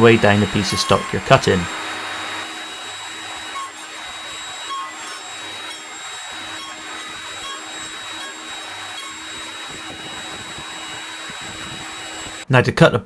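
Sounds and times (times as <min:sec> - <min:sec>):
table saw running: 0:00.0 - 0:12.5.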